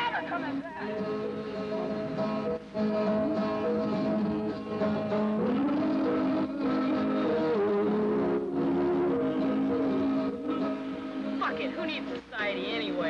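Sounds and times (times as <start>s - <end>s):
soundtrack music with held notes: 0.0s - 13.0s.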